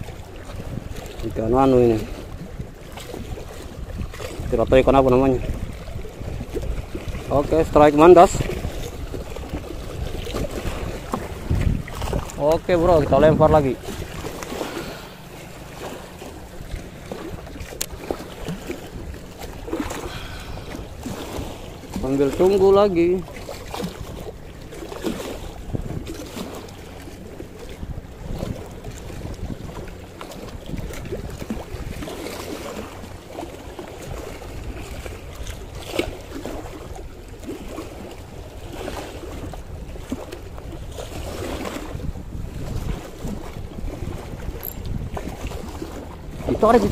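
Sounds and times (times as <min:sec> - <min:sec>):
waves washing against concrete wall: 0:00.0 - 0:46.9
wind rumbling on microphone: 0:00.0 - 0:46.9.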